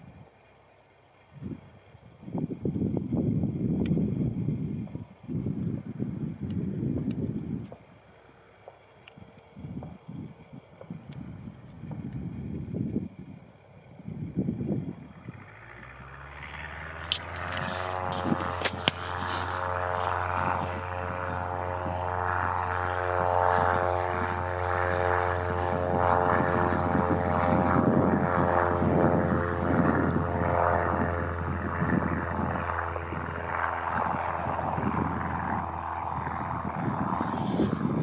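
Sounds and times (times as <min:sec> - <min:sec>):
propeller plane engine throttling up: 0:00.1 - 0:38.0.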